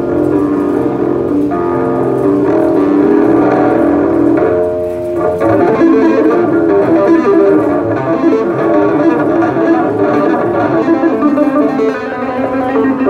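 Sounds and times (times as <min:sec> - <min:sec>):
electric bass guitar: 0:00.0 - 0:13.0.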